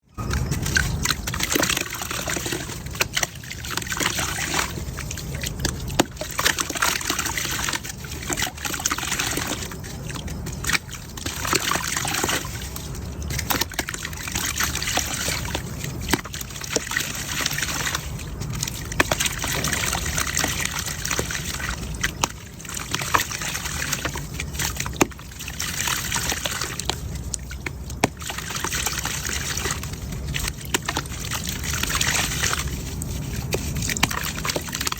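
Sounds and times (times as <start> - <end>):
mud crumbling into water: 0.2 - 34.9.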